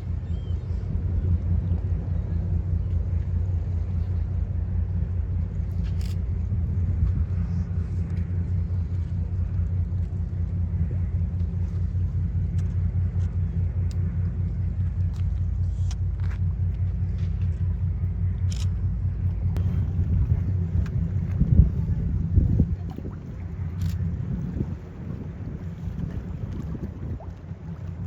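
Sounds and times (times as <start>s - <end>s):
ship engines throbbing rumble: 0.0s - 28.0s.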